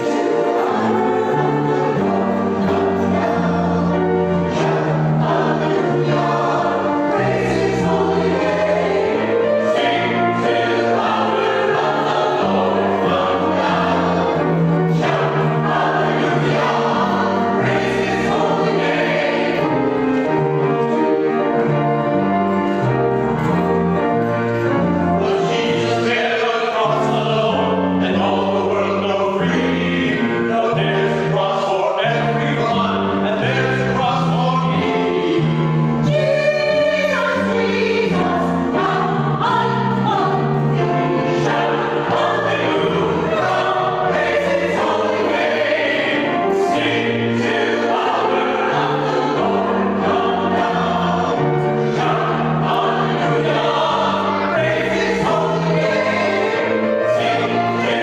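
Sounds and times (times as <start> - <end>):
church choir singing: 0.0 - 58.0.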